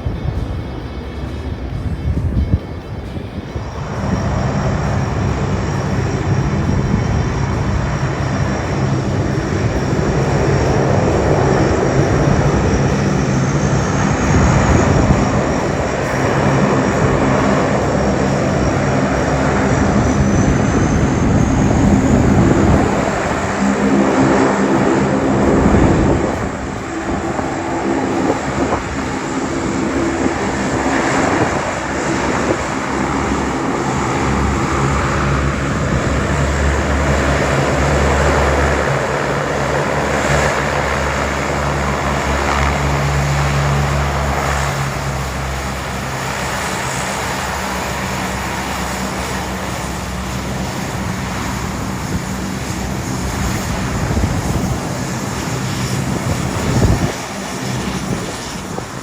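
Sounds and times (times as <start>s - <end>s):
airliner engines droning: 0.0s - 59.0s
wind noise on microphone: 0.0s - 59.0s.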